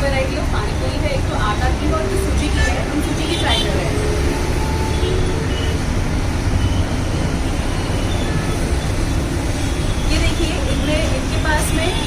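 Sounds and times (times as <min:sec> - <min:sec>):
highway traffic roar: 0:00.0 - 0:12.0.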